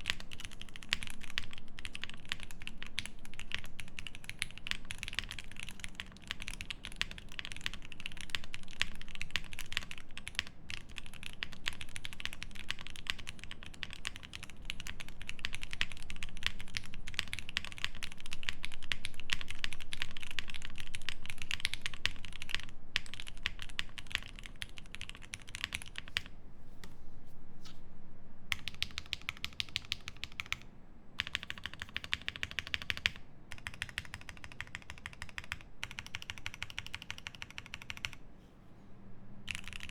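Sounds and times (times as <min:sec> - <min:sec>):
mechanical keyboard typing: 0:00.0 - 0:26.3, 0:28.5 - 0:30.6, 0:31.2 - 0:38.2, 0:39.5 - 0:39.9.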